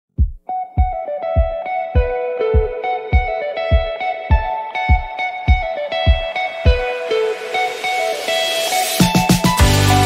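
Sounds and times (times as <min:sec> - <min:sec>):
low thumping beat: 0:00.1 - 0:07.3, 0:09.0 - 0:10.0
plucked melody: 0:00.4 - 0:10.0.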